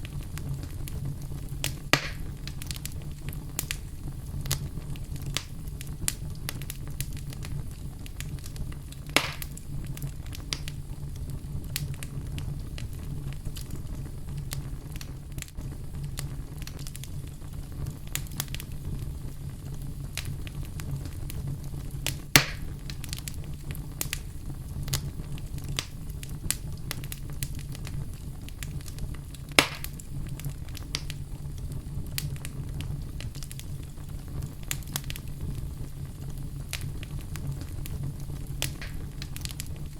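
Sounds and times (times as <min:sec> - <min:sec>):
burning wood popping: 0:00.0 - 0:39.9
low rumble of flames: 0:00.0 - 0:39.9
small crackles: 0:00.0 - 0:39.9.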